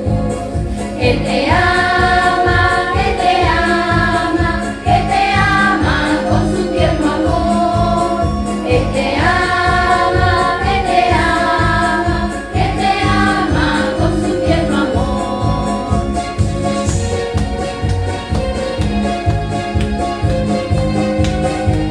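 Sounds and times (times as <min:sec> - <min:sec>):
backing track with steady beat: 0:00.3 - 0:08.6, 0:11.0 - 0:21.9
children's choir singing: 0:00.6 - 0:21.9.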